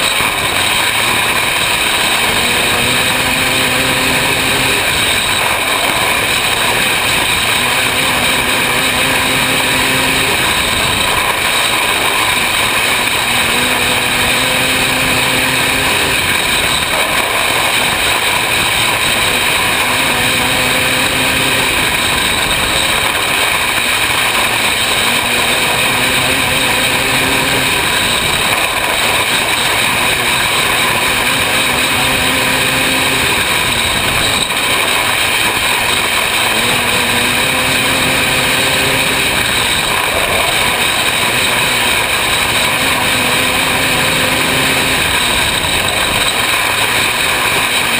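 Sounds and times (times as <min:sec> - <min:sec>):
racing car engine running hard: 0:00.0 - 0:47.9.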